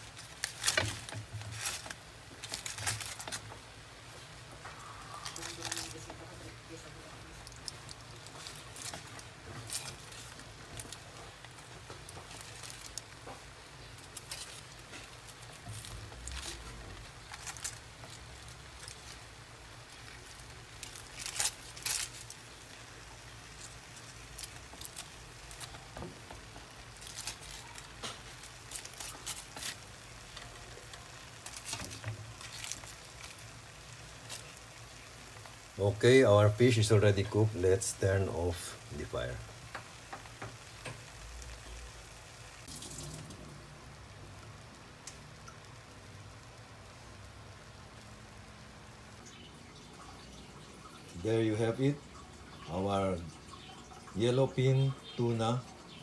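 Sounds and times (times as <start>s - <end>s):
aluminium foil crackling: 0.0s - 56.0s.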